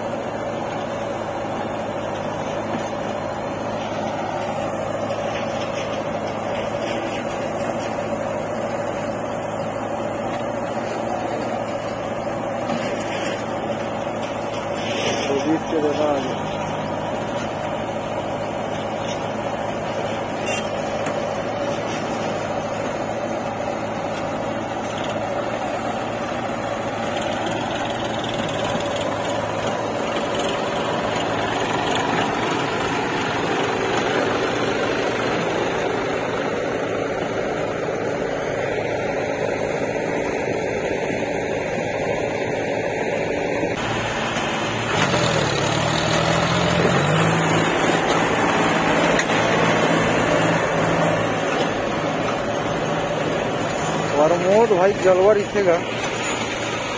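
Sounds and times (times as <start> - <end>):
tractor diesel engine revving: 0.0 - 56.9.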